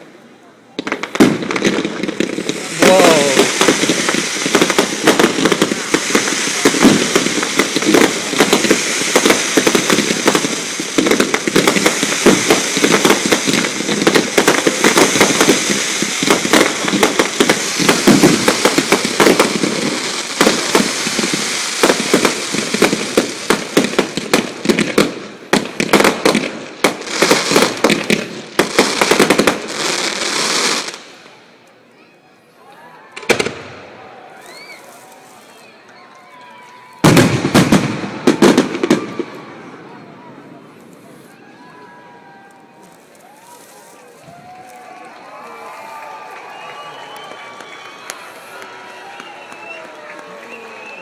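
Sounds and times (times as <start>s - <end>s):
fireworks bangs and crackling: 0.0s - 31.5s, 33.2s - 51.0s.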